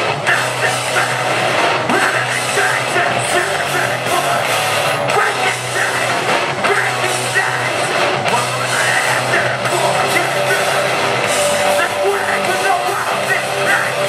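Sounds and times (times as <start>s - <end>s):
live metalcore band playing: 0.0s - 14.0s
person singing into microphone: 0.0s - 14.0s.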